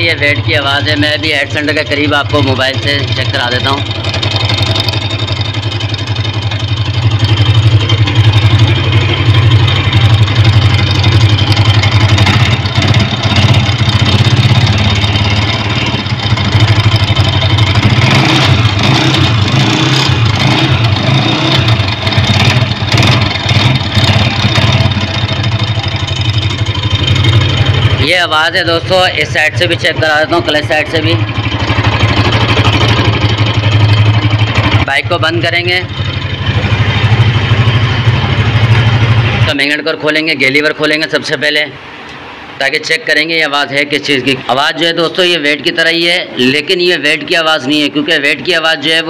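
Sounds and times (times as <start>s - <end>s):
motorcycle engine idling: 0.0s - 41.2s.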